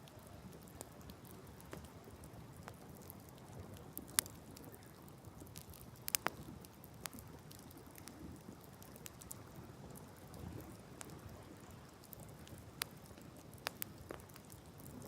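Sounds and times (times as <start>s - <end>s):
campfire crackling and popping: 0.0s - 15.0s
low rumble of fire: 0.0s - 15.0s.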